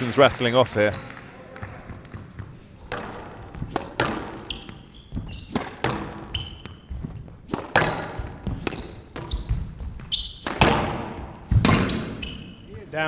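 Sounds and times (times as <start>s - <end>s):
shoes squeaking on court floor: 0.0s - 13.0s
squash ball hitting rackets and walls: 1.0s - 13.0s.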